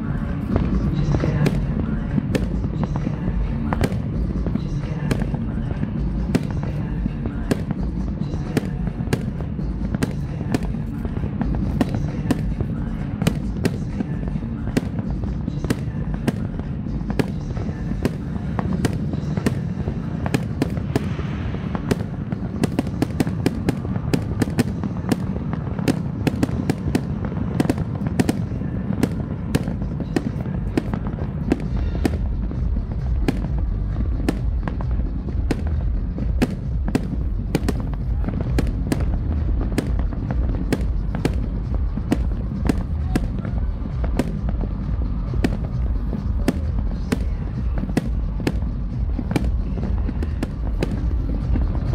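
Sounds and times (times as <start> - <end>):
fireworks bangs and crackles: 0.0 - 51.9
low rumble: 0.0 - 51.9.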